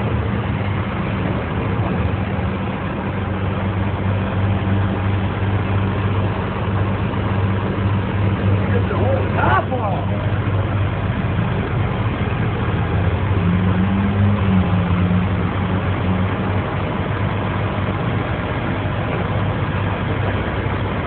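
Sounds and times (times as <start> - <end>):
heavy vehicle engine idling: 0.0 - 21.0
street noise hum: 0.0 - 21.0.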